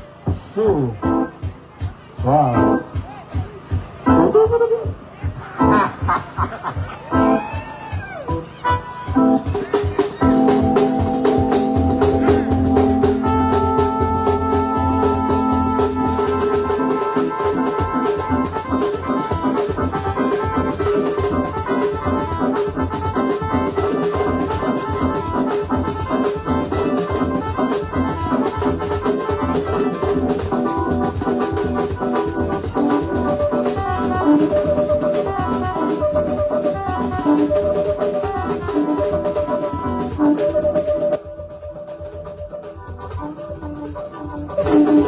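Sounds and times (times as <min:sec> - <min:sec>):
music with organ chords and drums: 0:00.0 - 0:45.0.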